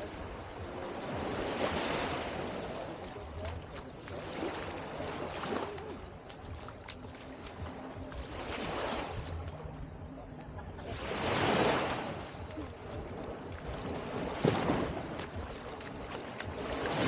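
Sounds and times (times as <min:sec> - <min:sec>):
small waves washing onto sand: 0:00.0 - 0:17.0.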